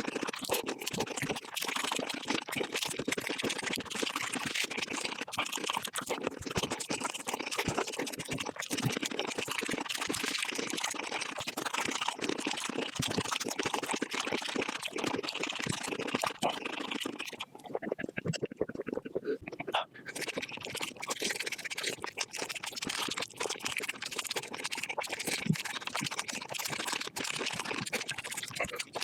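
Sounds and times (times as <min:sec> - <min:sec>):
person chewing chicken: 0:00.0 - 0:29.0.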